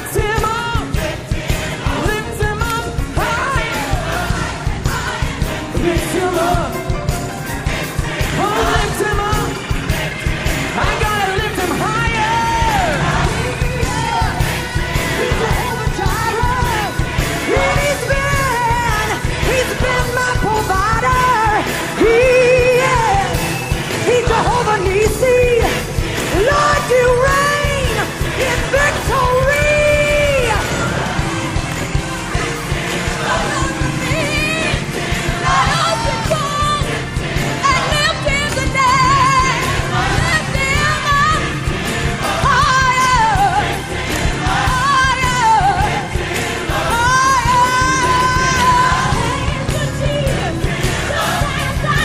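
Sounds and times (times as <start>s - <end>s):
person singing gospel: 0.0s - 31.2s, 32.6s - 52.0s
drums and bass: 0.0s - 52.0s.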